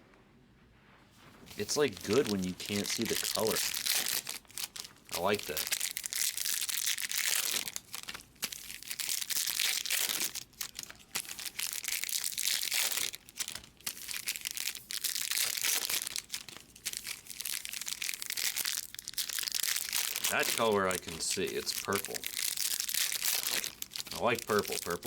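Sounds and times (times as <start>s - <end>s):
card pack wrappers crinkling: 1.5s - 25.0s.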